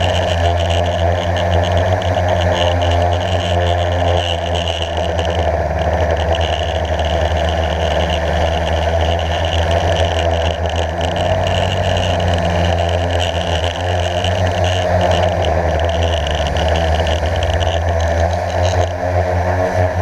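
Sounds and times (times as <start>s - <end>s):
quadcopter motors humming: 0.0s - 20.0s.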